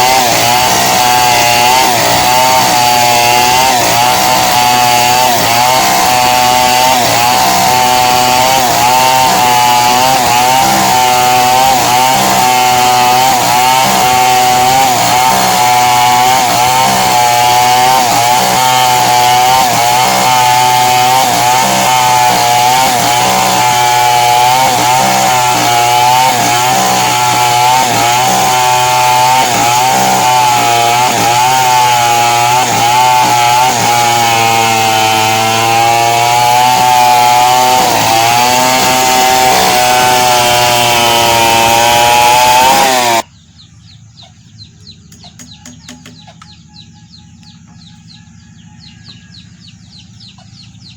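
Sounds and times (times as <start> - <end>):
chainsaw cutting wood: 0.0 - 43.3, 45.2 - 46.8.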